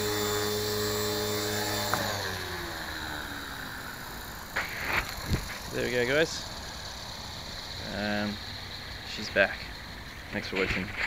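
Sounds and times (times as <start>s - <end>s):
helicopter motor and rotor whine: 0.0s - 11.0s.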